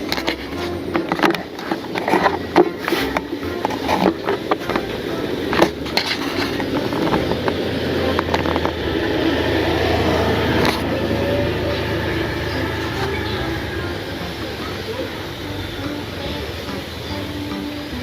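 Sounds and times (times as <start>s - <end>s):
vehicle passing rumble: 0.0s - 18.0s.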